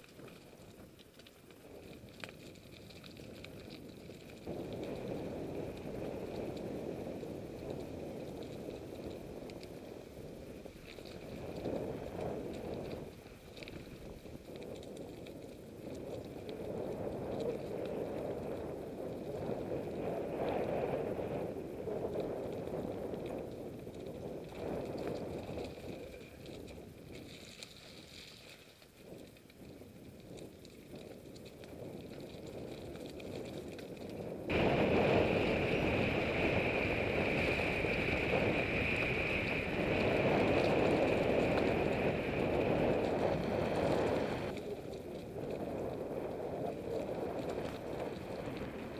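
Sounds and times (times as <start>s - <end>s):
bike tyres rolling on gravel: 0.0s - 48.9s.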